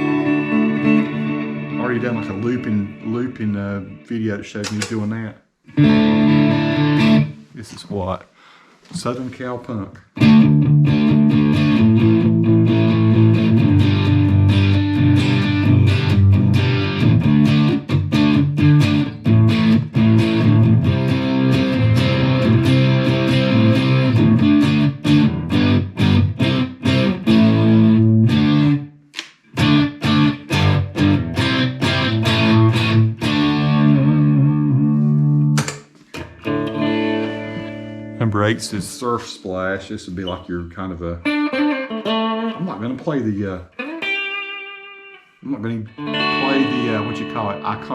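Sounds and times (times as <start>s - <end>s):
distorted electric guitar strumming: 0.0s - 4.9s, 5.7s - 7.4s, 10.2s - 28.9s, 29.5s - 38.8s, 41.2s - 47.9s.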